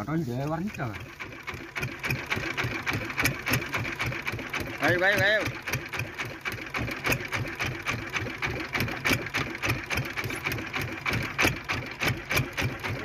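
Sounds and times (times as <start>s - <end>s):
boat engine idling with knocking clatter: 0.0s - 13.0s.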